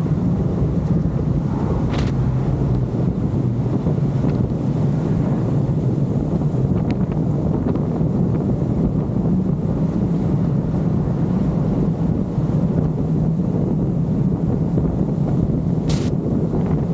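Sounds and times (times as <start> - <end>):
car road noise: 0.0 - 16.9
wind rumbling on microphone: 0.0 - 16.9.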